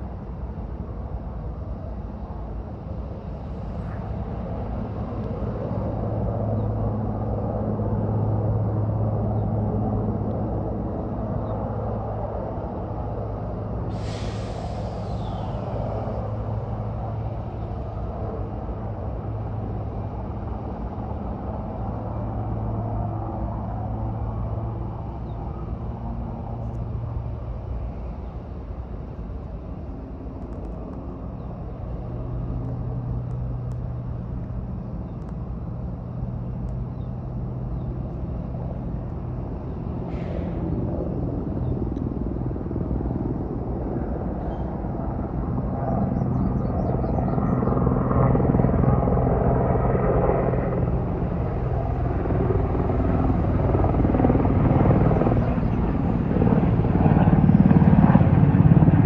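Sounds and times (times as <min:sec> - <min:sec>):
aircraft engine droning: 0:00.0 - 0:59.0.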